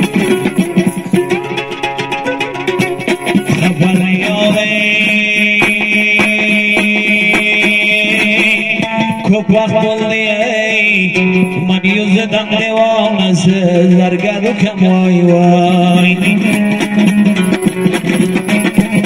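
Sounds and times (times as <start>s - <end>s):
lute strummed: 0.0s - 19.0s.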